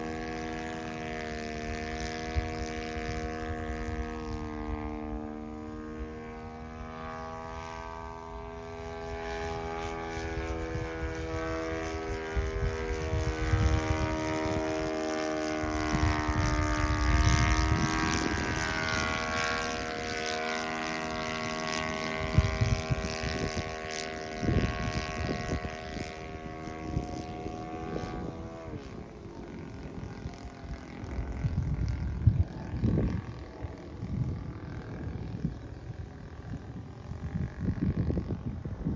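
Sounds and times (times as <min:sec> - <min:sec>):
model plane engine droning: 0:00.0 - 0:38.9.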